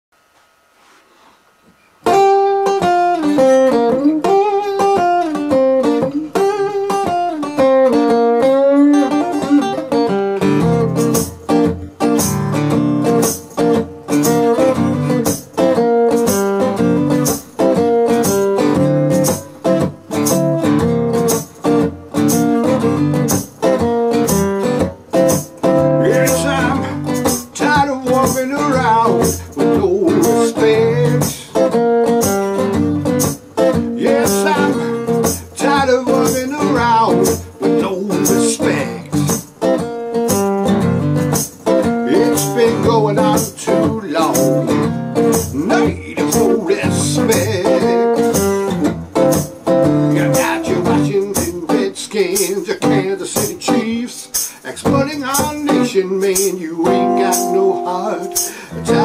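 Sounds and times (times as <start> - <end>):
acoustic guitar blues: 2.0 - 59.0.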